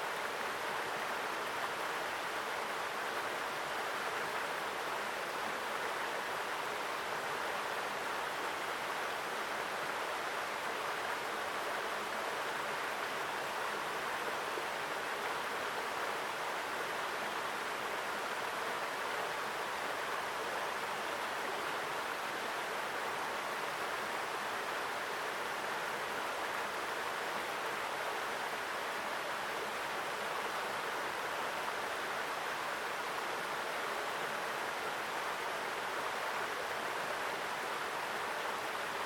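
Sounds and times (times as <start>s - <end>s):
stream flowing over rocks: 0.0s - 39.0s.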